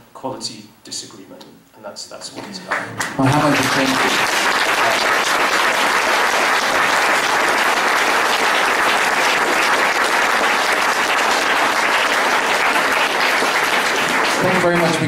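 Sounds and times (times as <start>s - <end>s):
audience applauding: 2.4s - 15.0s.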